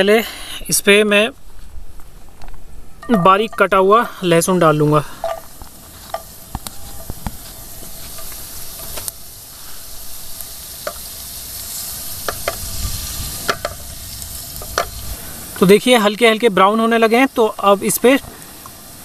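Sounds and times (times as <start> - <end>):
garlic sizzling in oil: 3.0 - 19.0.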